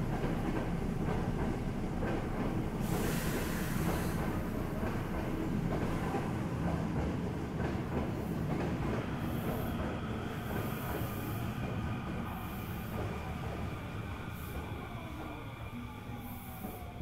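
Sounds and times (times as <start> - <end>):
train wheel and motor rumble: 0.0 - 17.0.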